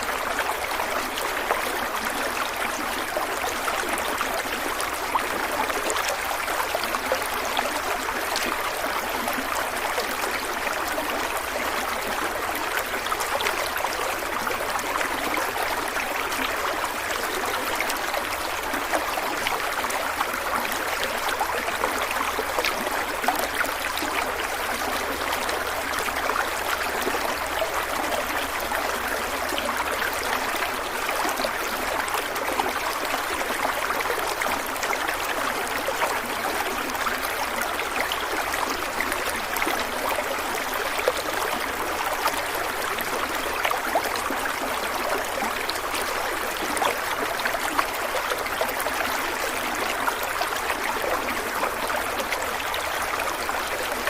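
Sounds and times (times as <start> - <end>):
stream of water splashing: 0.0 - 54.0.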